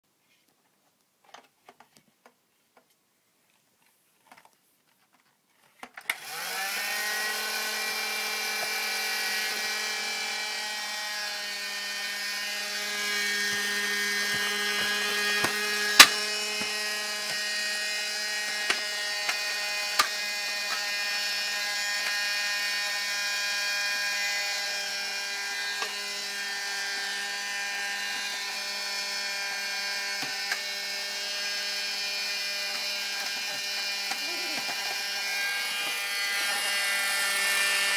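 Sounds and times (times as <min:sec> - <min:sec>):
vacuum cleaner motor running: 0:06.1 - 0:37.9.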